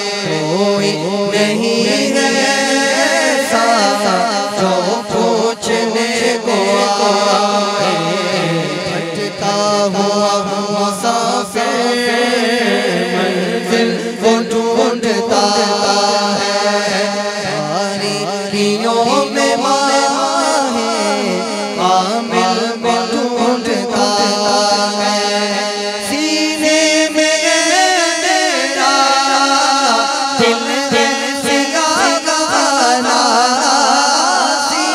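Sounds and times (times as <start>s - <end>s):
man singing into a microphone: 0.0s - 34.9s.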